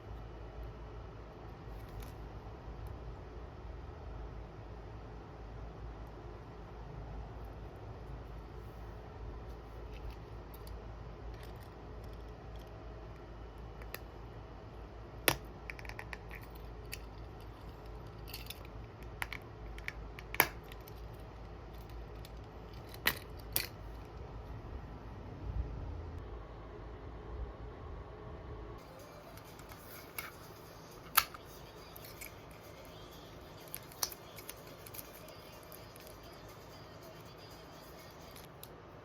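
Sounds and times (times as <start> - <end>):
faint room hum: 0.0 - 39.0.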